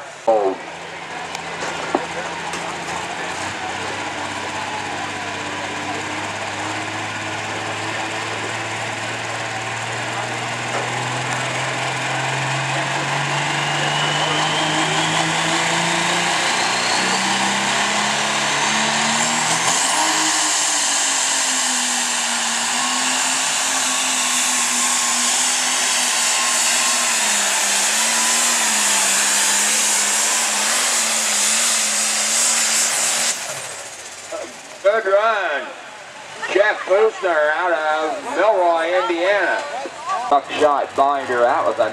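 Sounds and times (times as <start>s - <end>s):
tractor diesel engine at full throttle: 0.0s - 41.9s.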